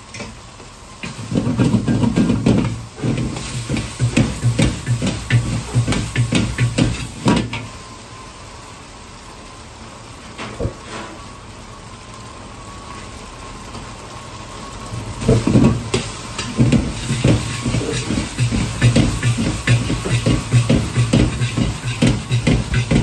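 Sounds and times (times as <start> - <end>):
gas burner hissing: 0.0 - 23.0.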